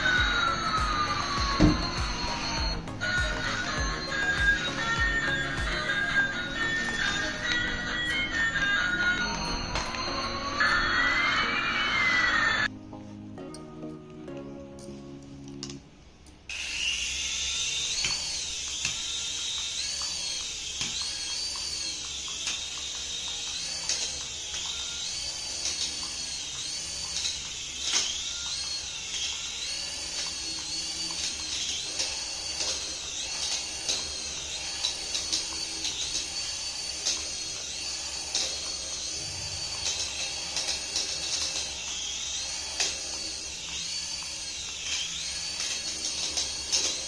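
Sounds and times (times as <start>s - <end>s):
small electric motor whining: 0.0s - 12.7s, 16.5s - 47.0s.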